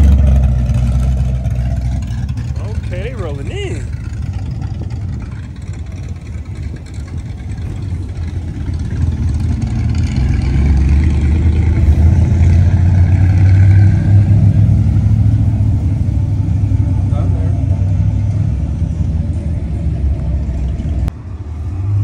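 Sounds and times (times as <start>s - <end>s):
car engines rumbling: 0.0s - 22.0s.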